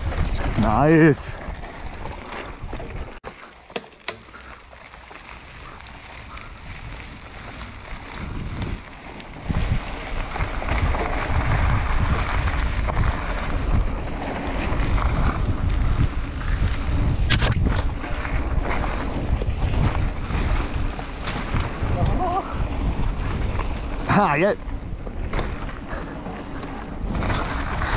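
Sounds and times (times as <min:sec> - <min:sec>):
wind buffeting microphone: 0:00.0 - 0:03.2, 0:04.8 - 0:27.9
bike knocking and rattling: 0:00.0 - 0:27.9
tyres rolling on dirt: 0:00.0 - 0:27.9.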